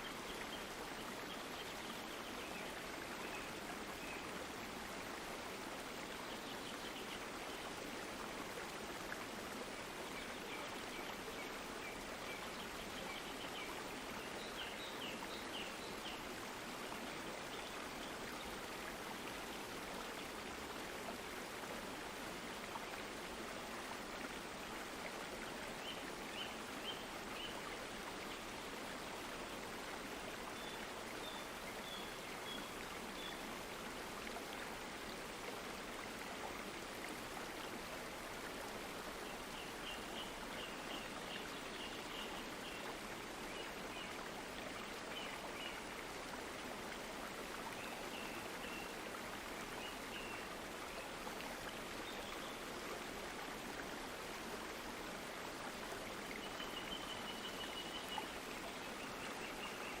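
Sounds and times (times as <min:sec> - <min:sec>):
stream water rushing: 0:00.0 - 1:00.0.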